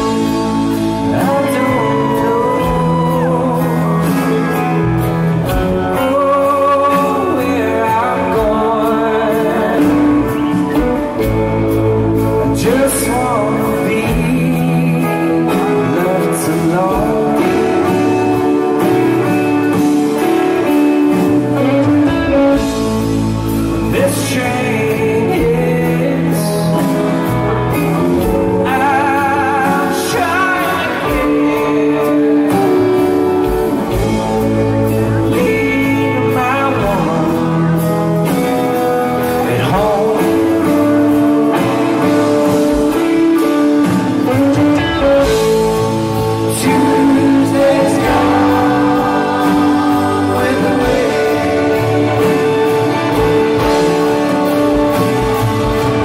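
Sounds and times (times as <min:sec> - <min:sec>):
song with singing voice: 0:00.0 - 0:56.0.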